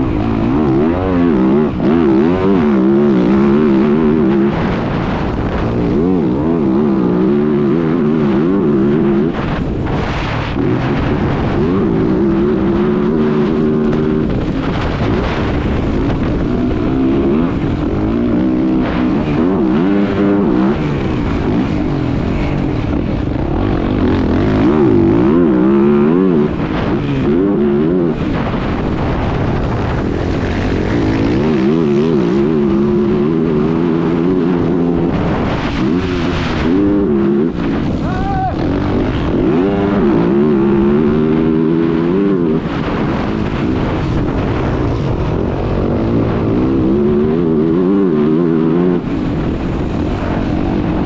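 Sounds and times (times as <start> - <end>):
motorbike engine revving: 0.0 - 51.0.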